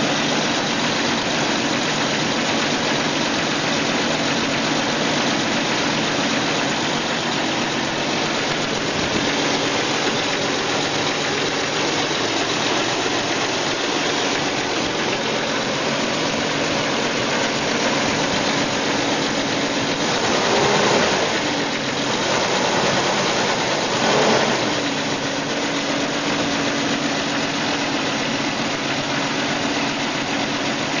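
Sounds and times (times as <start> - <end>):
engine revving: 0.0 - 30.9
car engine idling: 0.0 - 31.0.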